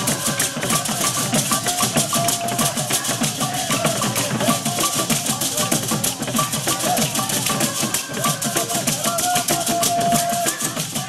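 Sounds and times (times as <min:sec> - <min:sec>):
music with fast drum beat: 0:00.0 - 0:11.0.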